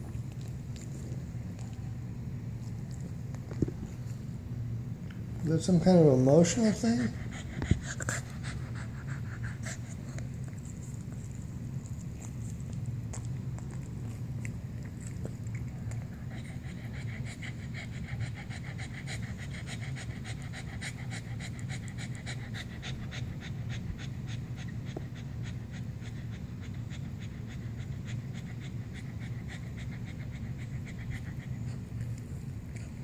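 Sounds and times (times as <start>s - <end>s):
steady low hum: 0.0s - 33.0s
dog panting: 6.4s - 33.0s.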